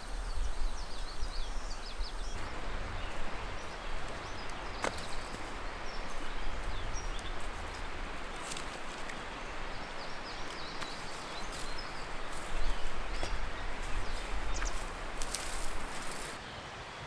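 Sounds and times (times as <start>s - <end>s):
small birds chirping: 0.0s - 16.5s
steady outdoor hiss: 0.0s - 17.0s.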